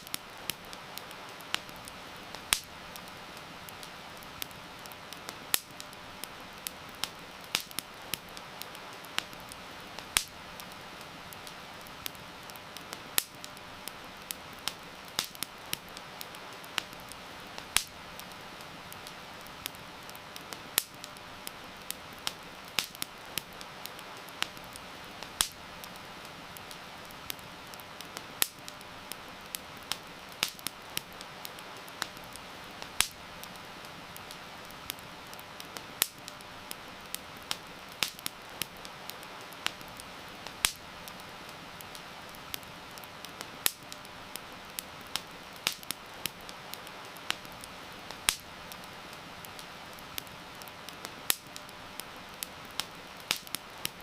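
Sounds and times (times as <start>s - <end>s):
soft hiss of rain: 0.0s - 54.0s
wood fire crackling and popping: 0.0s - 54.0s.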